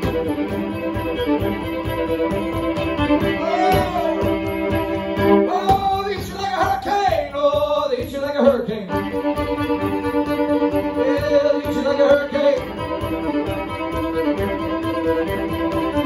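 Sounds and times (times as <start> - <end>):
fiddle playing folk tune: 0.0 - 16.0
foot stomping beat: 0.0 - 16.0.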